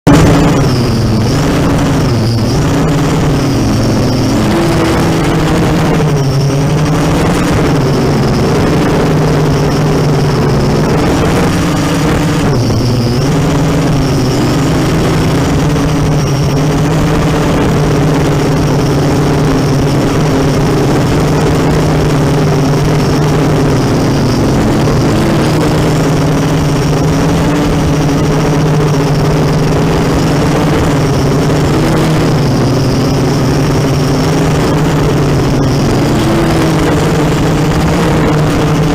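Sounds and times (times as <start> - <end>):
quadcopter motors buzzing: 0.1 - 38.9.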